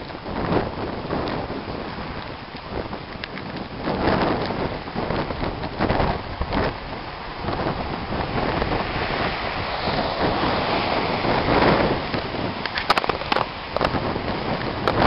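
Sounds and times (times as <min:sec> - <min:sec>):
heavy rain: 0:00.0 - 0:15.0
wind: 0:00.0 - 0:15.0.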